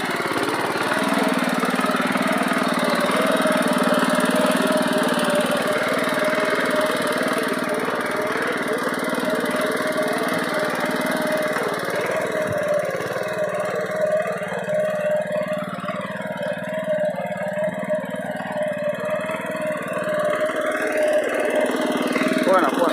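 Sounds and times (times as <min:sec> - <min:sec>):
power weeder engine running: 0:00.0 - 0:22.9
tines tilling soil: 0:00.0 - 0:22.9.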